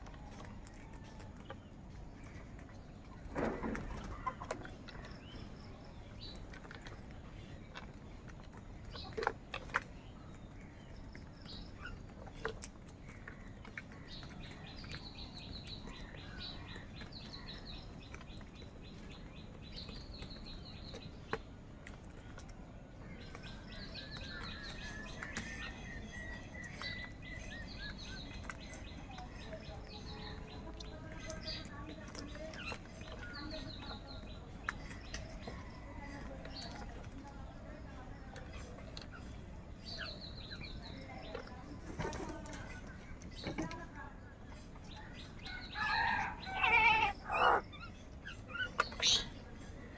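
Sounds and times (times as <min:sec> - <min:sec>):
birds twittering: 0:00.0 - 0:49.9
warbling birdsong: 0:00.0 - 0:49.9.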